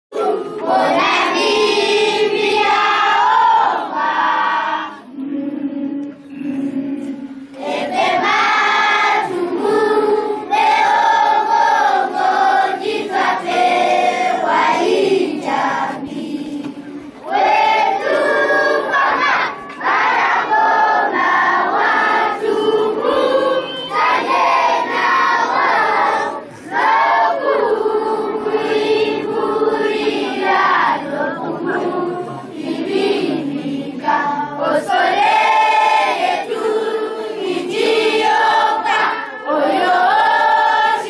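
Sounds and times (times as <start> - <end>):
children's choir singing a hymn: 0.1 - 41.0.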